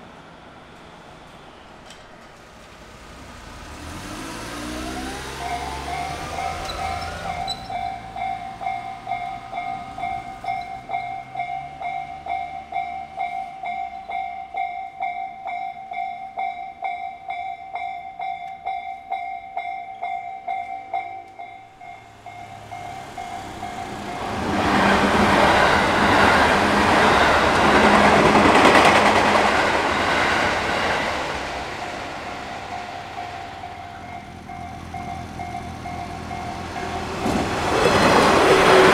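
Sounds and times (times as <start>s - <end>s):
train wheels rumbling on rail: 0.0s - 14.7s, 20.6s - 38.9s
level-crossing warning bell: 0.0s - 38.9s.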